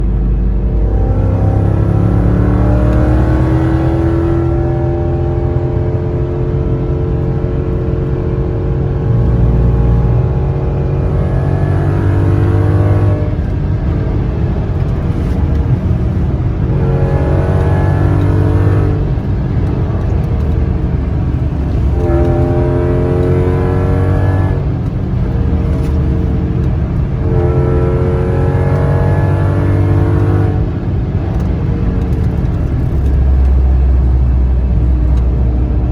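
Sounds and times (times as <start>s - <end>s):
car engine revving loudly: 0.5s - 35.9s.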